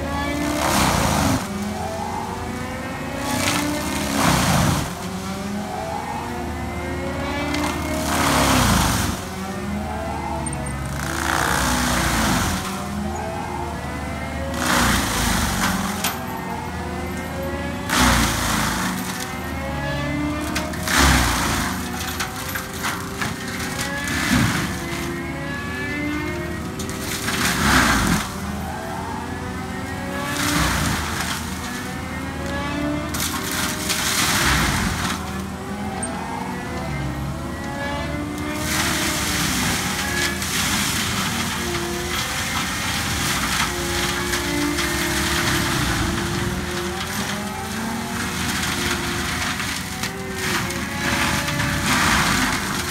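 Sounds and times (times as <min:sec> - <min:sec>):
diesel engine running hard: 0:00.0 - 0:52.9
mulcher grinding tree: 0:00.0 - 0:52.9.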